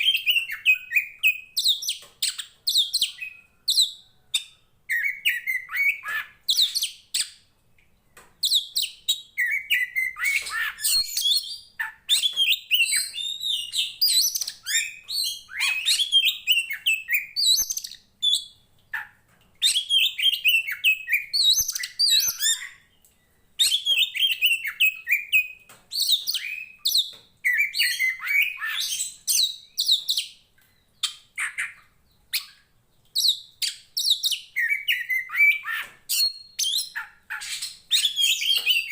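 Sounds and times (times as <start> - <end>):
bird singing whistles and chirps: 0.0 - 7.4, 8.4 - 18.6, 19.6 - 22.9, 23.6 - 32.6, 33.2 - 38.9.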